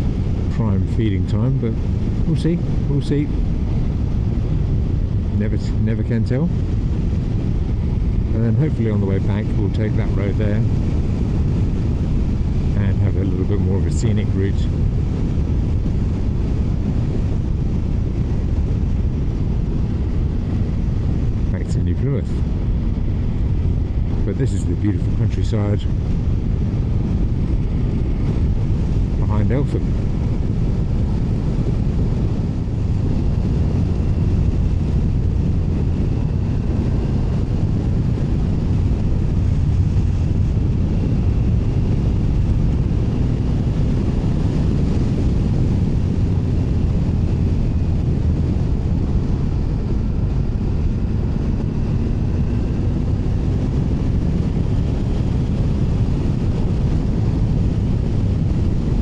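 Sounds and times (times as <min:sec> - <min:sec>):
wind rush on microphone: 0:00.0 - 0:59.0.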